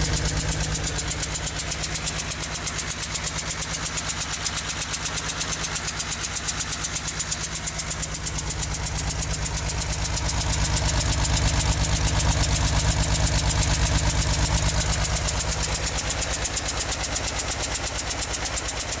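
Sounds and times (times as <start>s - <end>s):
car engine idling: 0.0s - 19.0s
rhythmic engine ticking: 0.0s - 19.0s.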